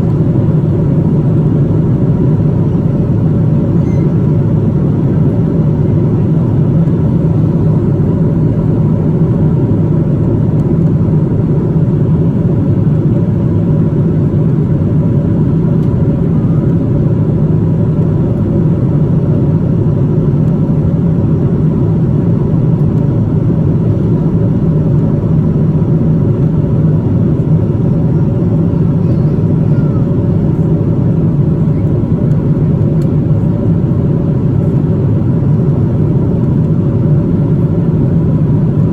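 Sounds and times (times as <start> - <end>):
airliner cabin engine and airflow noise: 0.0 - 38.9
faint steady hum: 0.0 - 38.9.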